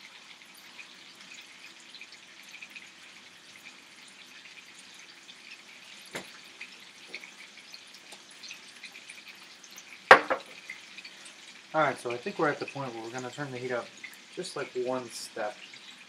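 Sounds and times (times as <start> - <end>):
chicken frying with small crackles: 0.0 - 16.0.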